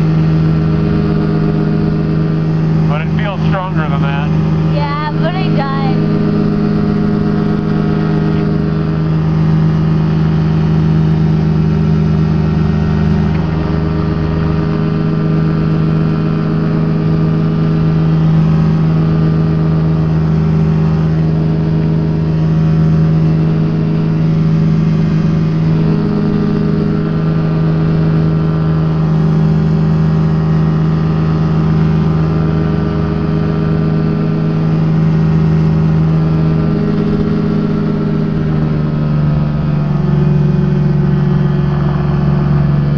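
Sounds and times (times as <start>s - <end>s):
aircraft engine in flight: 0.0s - 42.9s.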